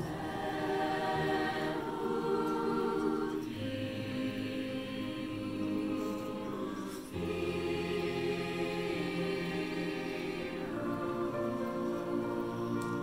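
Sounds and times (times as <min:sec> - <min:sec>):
choir singing sustained chords: 0:00.0 - 0:13.0.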